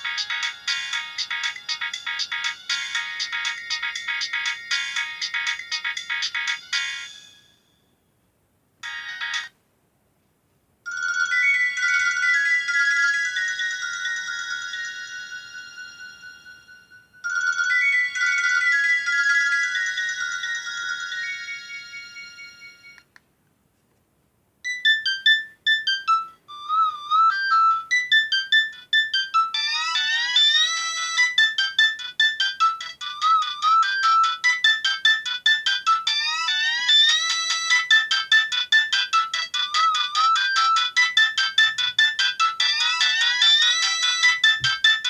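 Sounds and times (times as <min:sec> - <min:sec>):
mobile phone ringtone melody: 0:00.0 - 0:07.8, 0:08.8 - 0:09.6, 0:10.9 - 0:23.0, 0:24.6 - 0:45.0.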